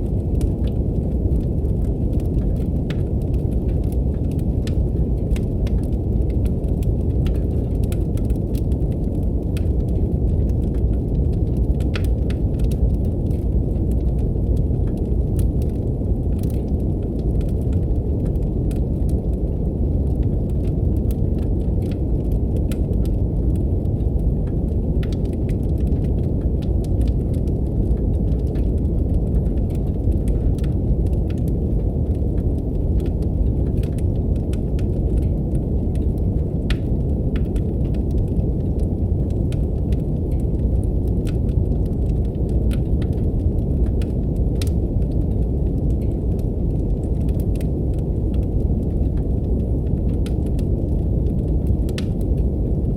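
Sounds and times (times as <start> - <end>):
deep brown noise: 0.0 - 52.9
wood fire crackling and popping: 0.0 - 52.9.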